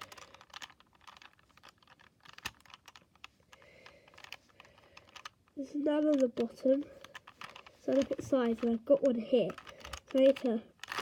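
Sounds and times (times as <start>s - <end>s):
puzzle cube clicking: 0.0s - 11.0s.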